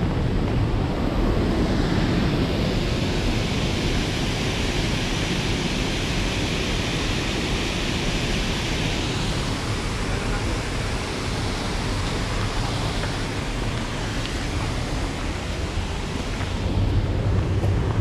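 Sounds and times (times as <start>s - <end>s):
wind rumbling on microphone: 0.0s - 18.0s
waterfall rushing: 1.9s - 17.4s.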